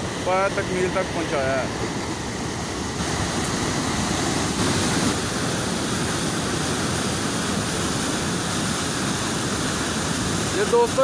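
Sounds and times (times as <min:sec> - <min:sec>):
water rushing over drop: 0:00.0 - 0:11.0.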